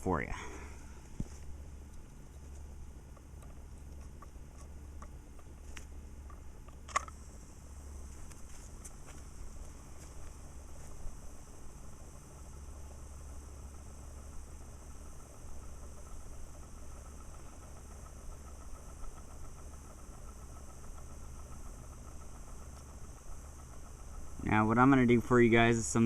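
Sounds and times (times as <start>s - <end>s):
electric motor hum: 0.0s - 26.0s
fine even mechanical ticking: 0.0s - 26.0s.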